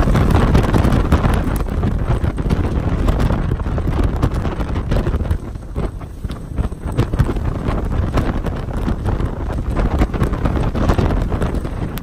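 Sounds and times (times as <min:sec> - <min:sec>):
boat rushing through water: 0:00.0 - 0:12.0
wind buffeting microphone: 0:00.0 - 0:12.0.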